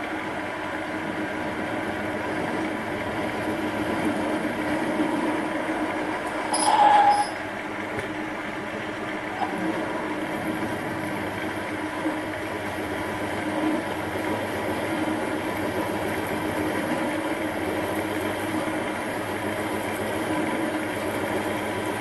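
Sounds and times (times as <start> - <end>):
lathe motor and gear hum: 0.0 - 22.0.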